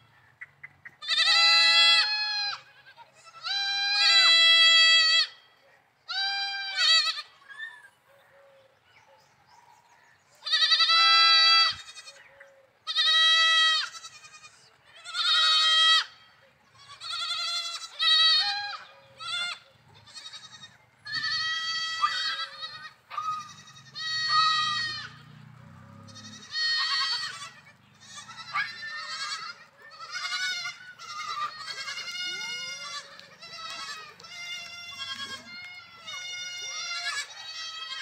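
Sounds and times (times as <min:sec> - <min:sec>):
goat kids bleating: 0:00.0 - 0:08.0, 0:10.4 - 0:38.0.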